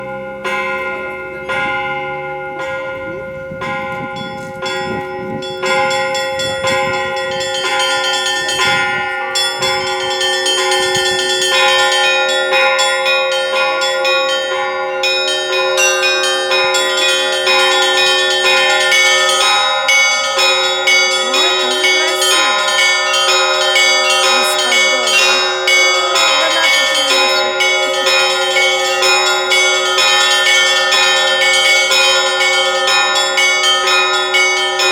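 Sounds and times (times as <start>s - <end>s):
large church bells ringing: 0.0s - 34.9s
small bells rhythmic pattern: 0.0s - 34.9s.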